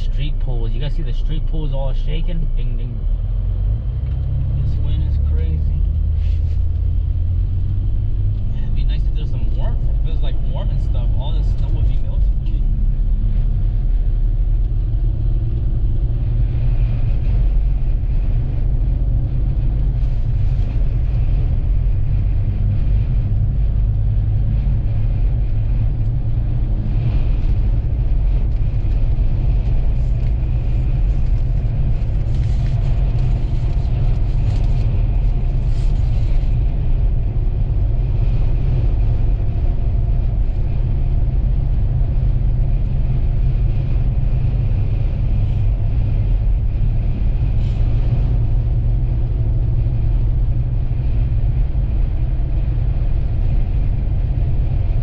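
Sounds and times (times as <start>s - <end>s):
vehicle driving rumble: 0.0s - 55.0s.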